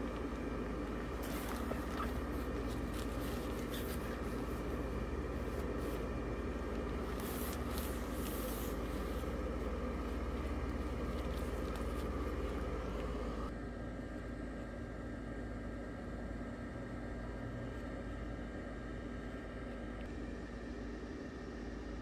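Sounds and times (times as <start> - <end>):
blower fan humming: 0.0 - 22.0.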